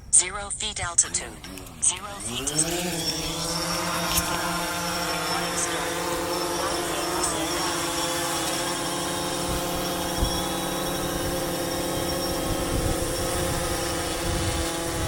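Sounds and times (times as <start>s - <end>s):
drone propellers buzzing: 0.9s - 15.0s.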